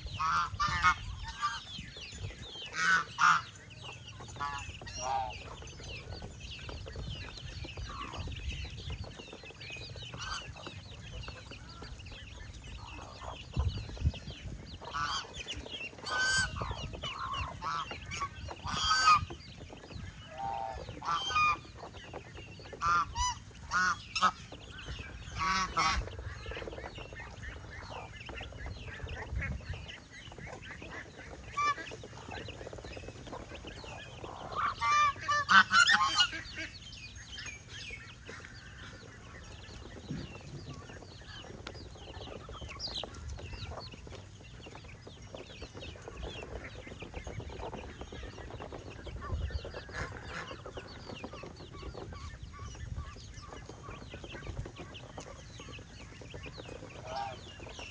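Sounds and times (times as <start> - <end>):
geese honking: 0.0 - 57.9.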